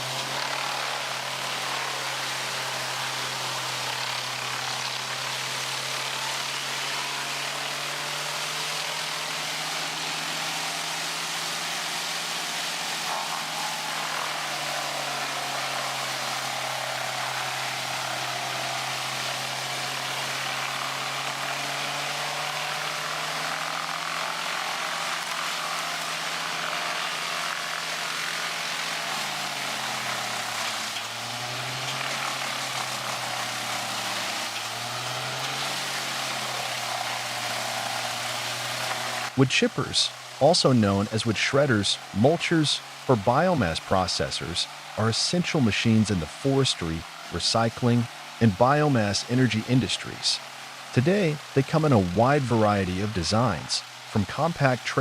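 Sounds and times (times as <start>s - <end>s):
wood chipper running: 0.0s - 55.0s.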